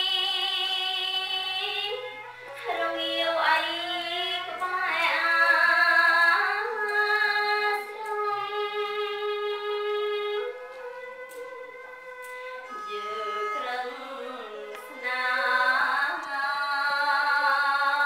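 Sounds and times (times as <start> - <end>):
woman chanting verse: 0.0 - 10.5, 12.6 - 18.0.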